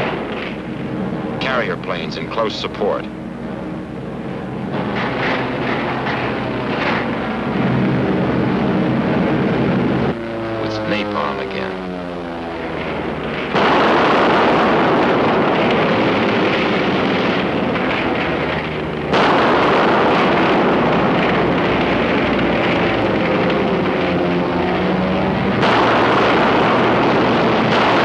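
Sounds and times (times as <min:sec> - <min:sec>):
bomb blasts with heavy roar: 0:00.0 - 0:28.0
faint propeller plane drone: 0:00.0 - 0:28.0.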